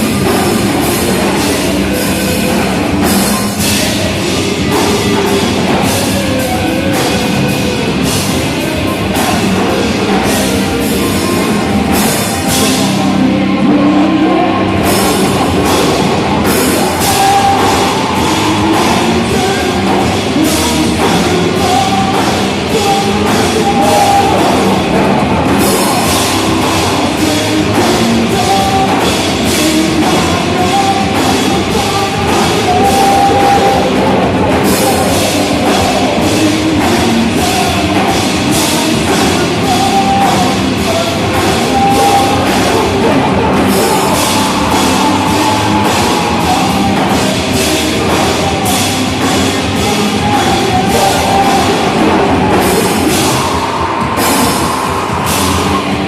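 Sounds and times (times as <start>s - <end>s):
drum kit beat: 0.0s - 56.0s
heavy rock band playing: 0.0s - 56.0s.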